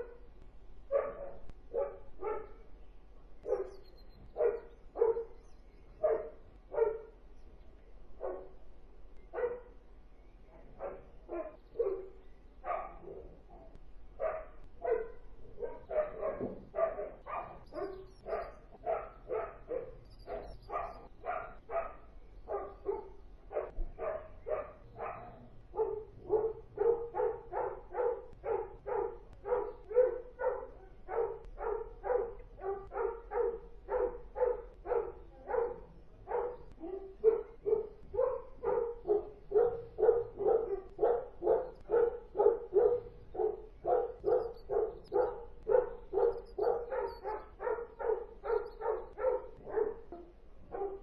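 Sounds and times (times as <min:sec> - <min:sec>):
dogs barking: 0:00.0 - 0:02.7, 0:03.4 - 0:05.4, 0:06.0 - 0:07.2, 0:08.2 - 0:08.6, 0:09.2 - 0:09.9, 0:10.6 - 0:51.0.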